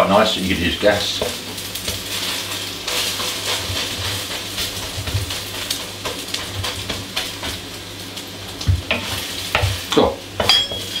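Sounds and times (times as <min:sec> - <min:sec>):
egg sizzling in hot oil: 0:00.0 - 0:11.0
spatula scraping and tapping pan: 0:01.2 - 0:07.7, 0:08.7 - 0:11.0.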